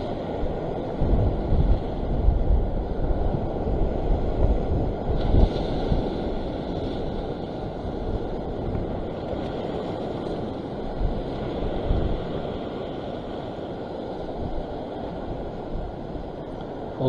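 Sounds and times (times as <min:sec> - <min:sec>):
sea waves washing: 0:00.0 - 0:17.0
wind blowing on microphone: 0:00.0 - 0:17.0.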